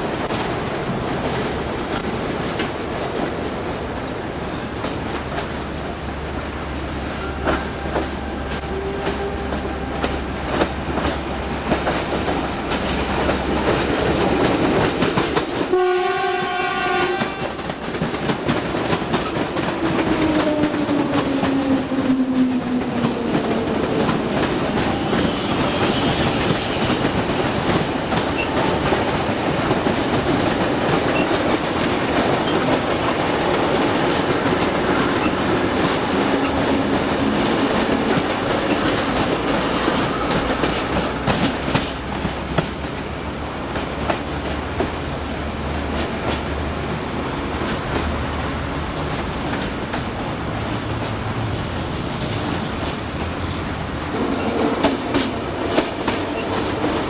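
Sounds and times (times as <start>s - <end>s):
train engine drone: 0.0s - 57.0s
train wheels clattering: 0.0s - 57.0s.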